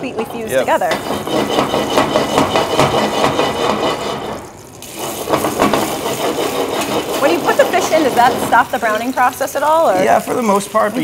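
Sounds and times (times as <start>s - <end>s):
butter sizzling in a pan: 0.5s - 11.0s.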